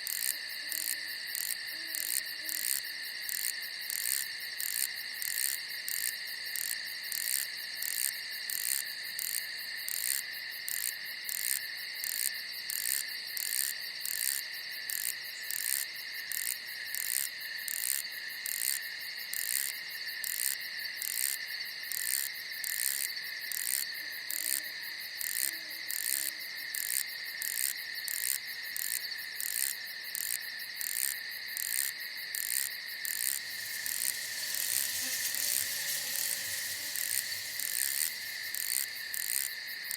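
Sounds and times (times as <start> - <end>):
crickets trilling: 0.0 - 39.9
pulsing cricket chirp: 0.0 - 39.9.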